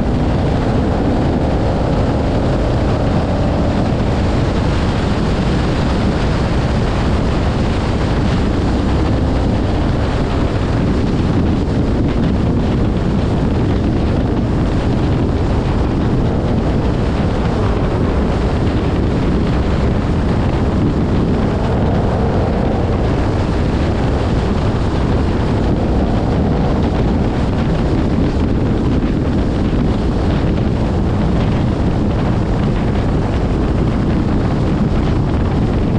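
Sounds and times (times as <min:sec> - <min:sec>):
car engine and road rumble: 0:00.0 - 0:35.9
wind buffeting microphone: 0:00.0 - 0:35.9.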